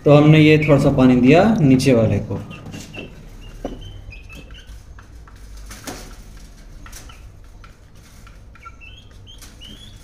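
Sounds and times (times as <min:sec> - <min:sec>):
caged birds chirping: 0:00.0 - 0:10.0.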